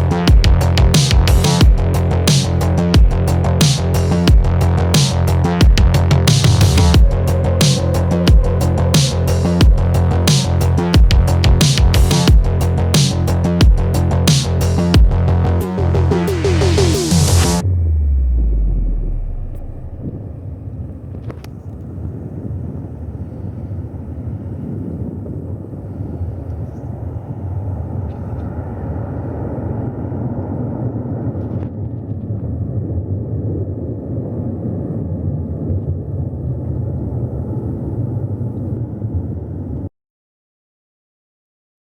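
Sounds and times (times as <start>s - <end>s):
jet engines rumbling: 0.0s - 39.8s.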